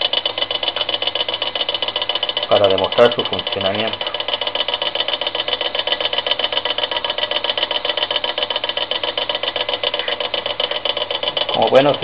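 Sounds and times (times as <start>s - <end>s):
steam turbine hissing and rattling: 0.0s - 12.0s.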